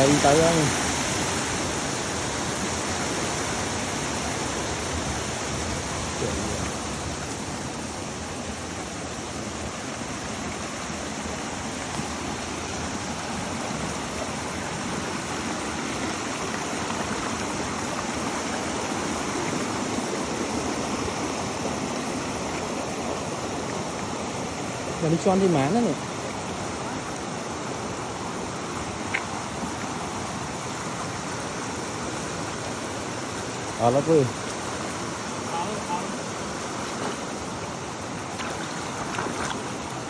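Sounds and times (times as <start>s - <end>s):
rushing water: 0.0s - 40.0s.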